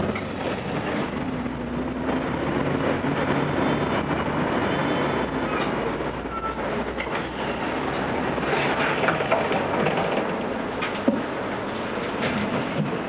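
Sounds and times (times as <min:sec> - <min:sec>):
tram wheels rumbling on track: 0:00.0 - 0:13.0.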